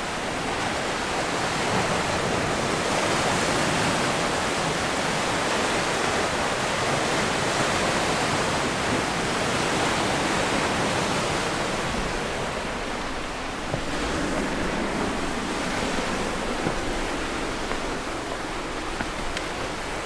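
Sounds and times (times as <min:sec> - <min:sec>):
sea surf washing: 0:00.0 - 0:20.0.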